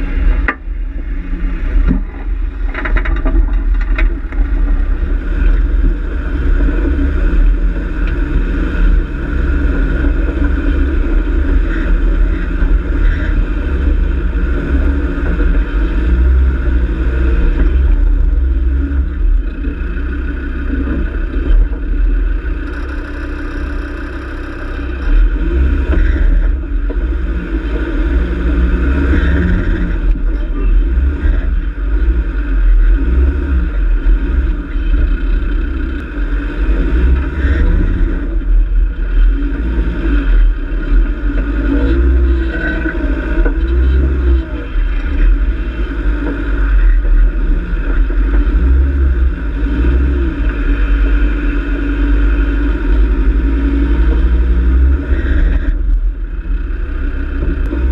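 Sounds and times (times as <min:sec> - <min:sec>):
low rumble over rocky track: 0:00.0 - 0:57.9
off-road vehicle engine: 0:00.0 - 0:57.9.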